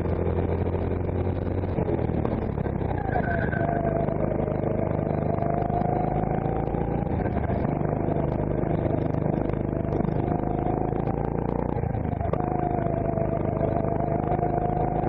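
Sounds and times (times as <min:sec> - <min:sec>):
go-kart engine revving: 0:00.0 - 0:15.0.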